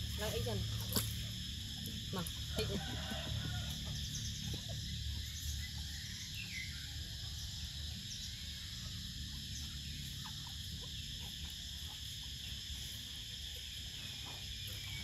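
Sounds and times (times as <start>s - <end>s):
insect chorus droning: 0.0s - 15.0s.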